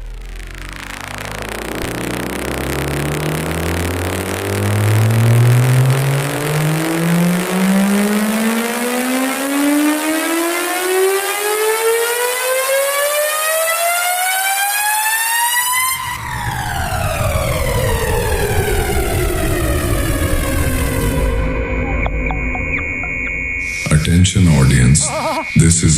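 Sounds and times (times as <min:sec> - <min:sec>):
buzzy rising synth tone: 0:00.0 - 0:25.9.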